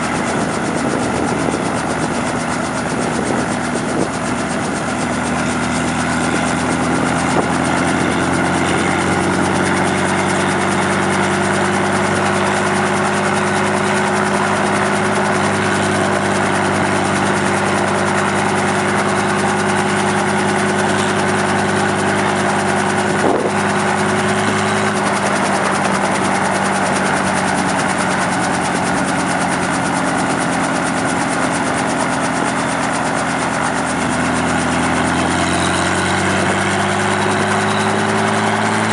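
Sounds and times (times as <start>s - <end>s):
helicopter engine and rotor hum: 0.0s - 38.9s.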